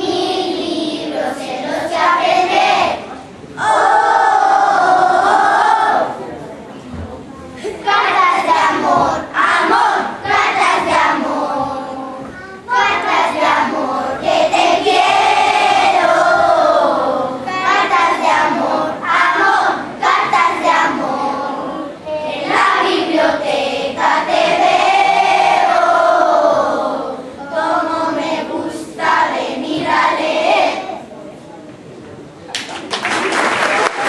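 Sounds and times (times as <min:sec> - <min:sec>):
children's choir singing: 0:00.0 - 0:06.4, 0:07.6 - 0:31.1.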